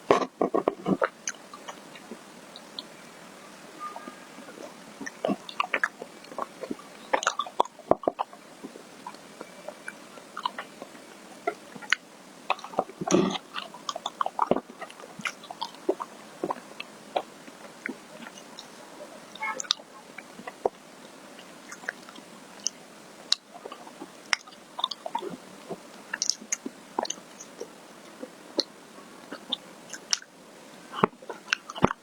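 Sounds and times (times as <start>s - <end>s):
wet mouth clicks and chewing: 0.1s - 2.9s, 4.4s - 18.8s, 19.4s - 30.3s, 31.0s - 32.0s.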